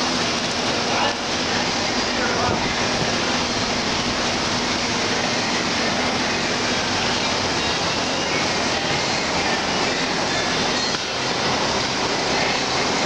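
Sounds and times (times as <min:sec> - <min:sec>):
model train running on track: 0:00.0 - 0:13.0.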